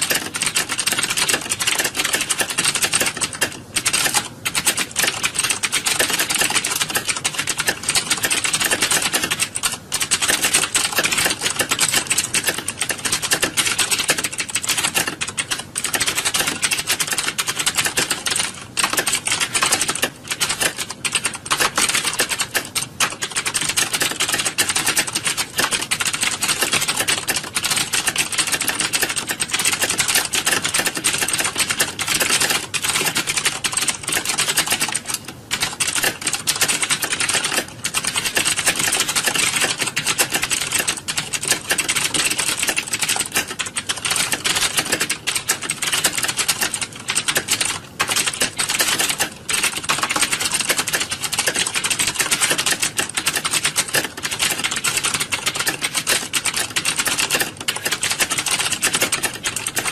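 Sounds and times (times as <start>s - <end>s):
keyboards typing: 0.0s - 59.9s.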